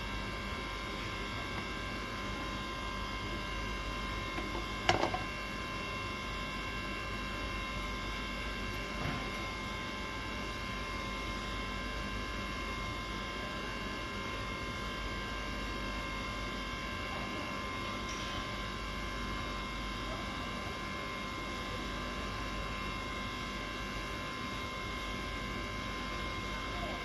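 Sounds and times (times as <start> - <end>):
electrical hum with high tones: 0.0 - 27.0.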